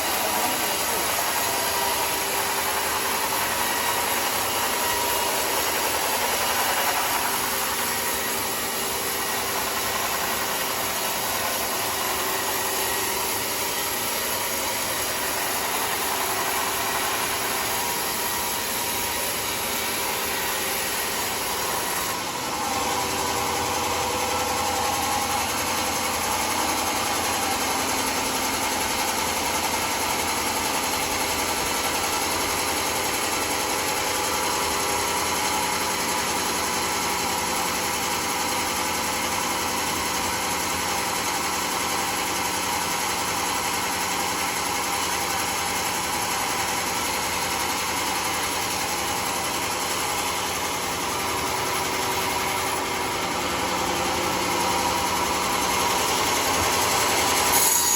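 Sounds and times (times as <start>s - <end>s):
sawmill machinery droning: 0.0s - 57.9s.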